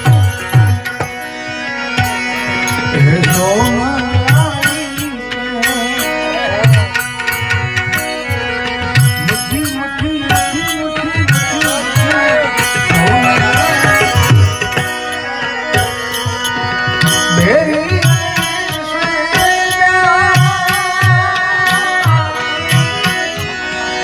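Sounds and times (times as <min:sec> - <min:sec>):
harmonium drone: 0:00.0 - 0:24.0
ornamented gliding melody: 0:00.0 - 0:24.0.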